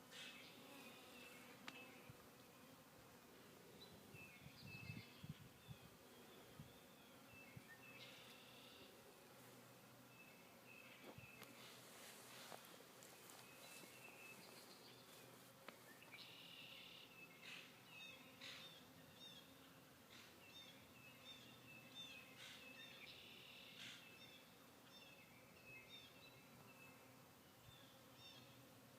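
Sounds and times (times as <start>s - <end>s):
faint low hum of bees: 0.0s - 28.9s
songbird chirping: 3.7s - 9.0s, 10.0s - 28.6s.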